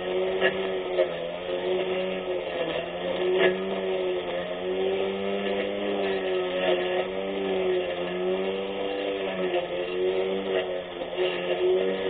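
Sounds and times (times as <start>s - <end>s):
electric lawn mower motor whine: 0.0s - 12.0s.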